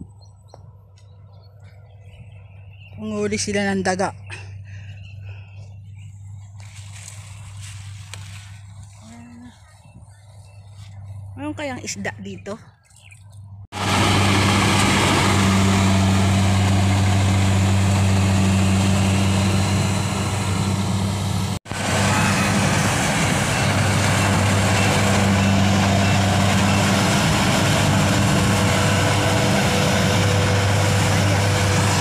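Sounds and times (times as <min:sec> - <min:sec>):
combine harvester engine hum: 0:00.0 - 0:32.0.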